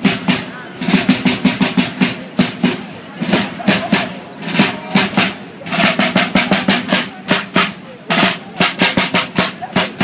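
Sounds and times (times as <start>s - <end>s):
side drum march rhythm: 0.0s - 10.0s.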